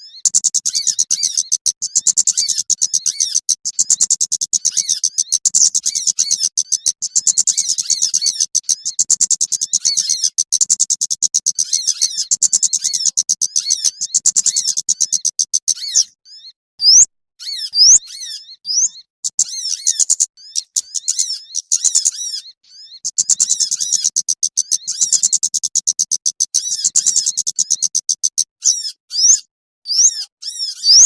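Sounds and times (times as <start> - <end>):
songbirds chattering: 0.0 - 31.0.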